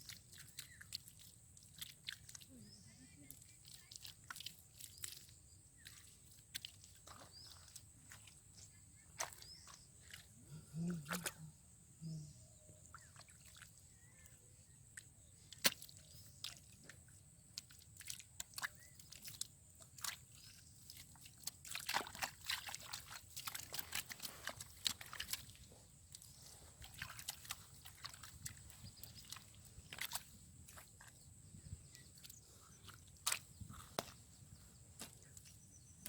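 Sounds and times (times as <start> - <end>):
water sloshing and dripping: 0.0 - 11.6, 12.7 - 36.0.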